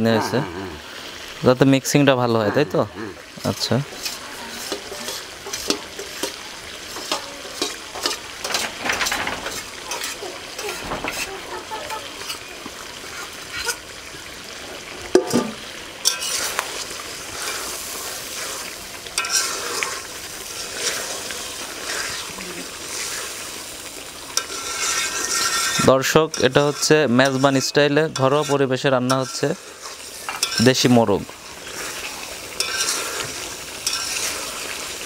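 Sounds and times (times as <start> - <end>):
chicken sizzling in a pot: 0.7 - 35.0
metal spatula scraping a pot: 3.3 - 13.9, 15.3 - 30.9, 31.6 - 34.8.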